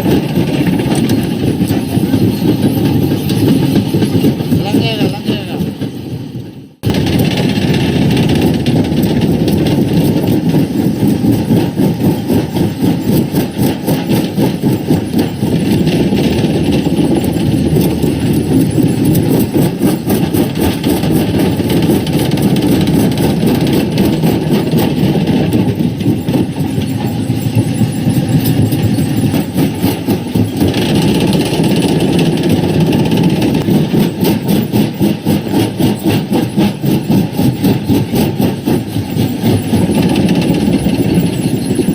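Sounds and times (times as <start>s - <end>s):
fast clattering pulse: 0.0s - 41.9s
rock crusher machine drone: 0.0s - 41.9s.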